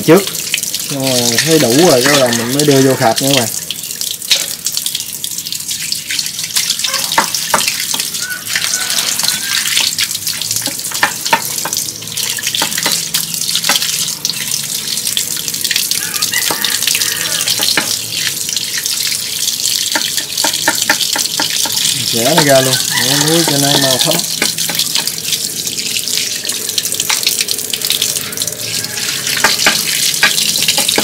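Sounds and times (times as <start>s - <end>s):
tap water running into basin: 0.0s - 31.0s.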